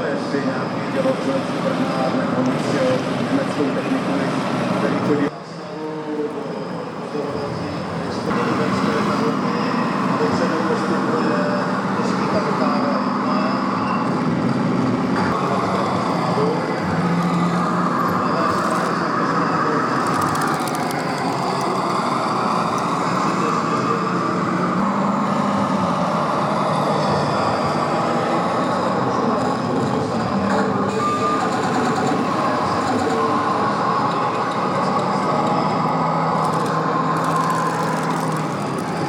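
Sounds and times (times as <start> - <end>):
model tank engine hum: 6.0 - 39.0.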